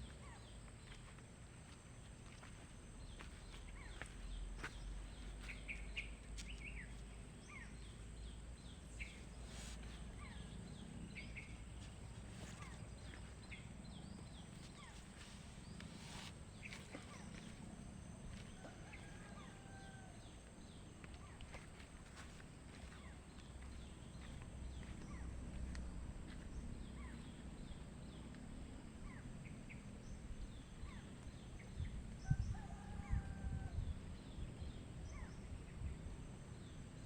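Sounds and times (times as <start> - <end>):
birds chirping: 0.0 - 33.6.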